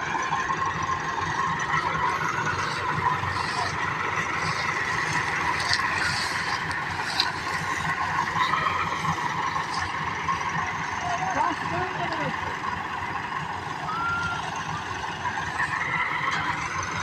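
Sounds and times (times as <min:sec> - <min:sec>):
tractor diesel engine rumble: 0:00.0 - 0:17.0
tractor rattling: 0:00.0 - 0:17.0.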